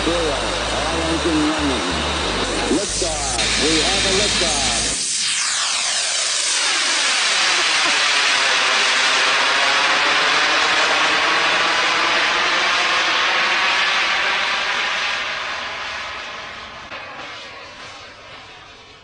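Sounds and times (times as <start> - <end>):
model jet engine flying past: 0.0 - 19.0.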